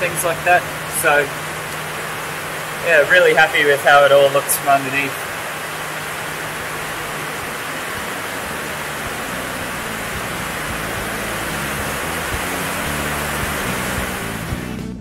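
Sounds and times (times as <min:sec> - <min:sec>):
rain on a tin roof: 0:00.0 - 0:14.6.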